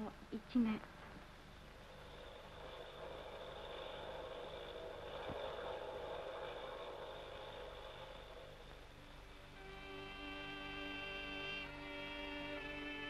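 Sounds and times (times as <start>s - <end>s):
airplane engine drone: 0.0s - 13.0s
low steady soundtrack hum: 0.0s - 13.0s.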